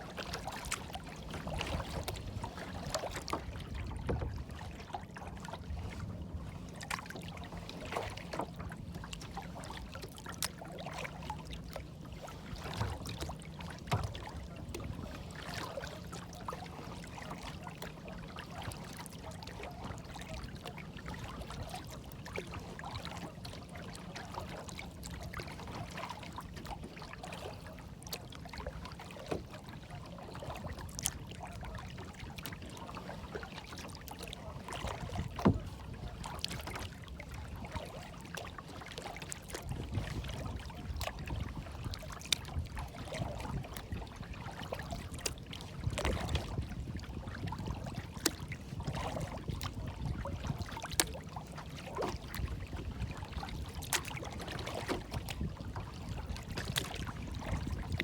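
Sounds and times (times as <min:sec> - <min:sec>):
water lapping and trickling: 0:00.0 - 0:58.0
water splashes and drips: 0:00.1 - 0:58.0.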